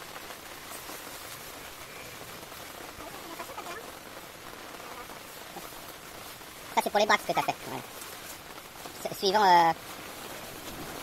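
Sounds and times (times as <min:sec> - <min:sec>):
rain on a tarpaulin: 0:00.0 - 0:11.0.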